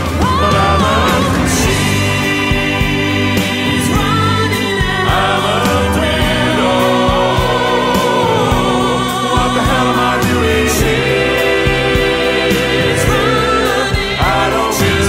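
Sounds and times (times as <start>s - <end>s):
band with bass and drums: 0.0s - 15.0s
male voices singing in harmony: 0.0s - 15.0s.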